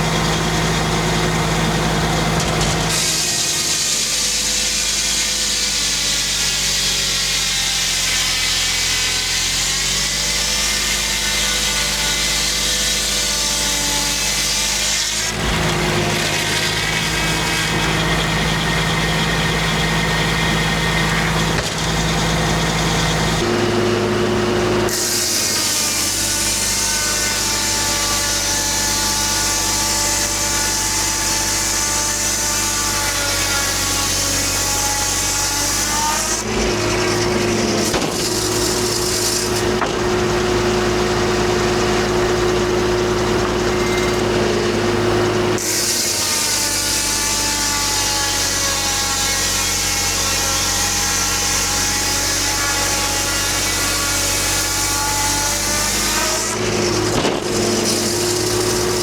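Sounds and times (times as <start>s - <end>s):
saw blade cutting log: 0.0s - 59.0s.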